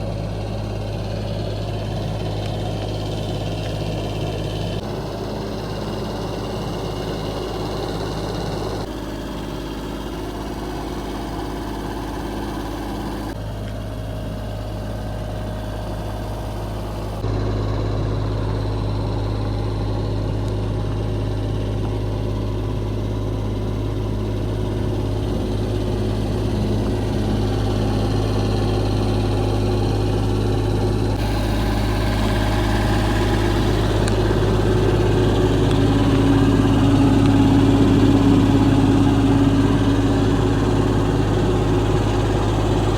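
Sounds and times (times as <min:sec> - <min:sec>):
diesel excavator engine idling: 0:00.0 - 0:42.9.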